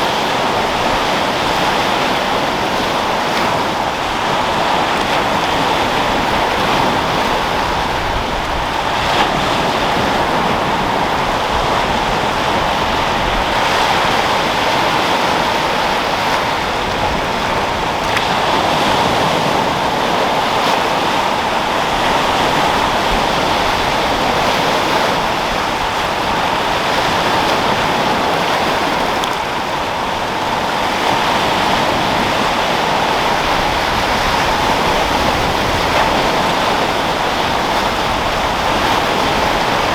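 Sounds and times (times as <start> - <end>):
sea waves breaking: 0.0 - 39.9
wind: 0.0 - 39.9.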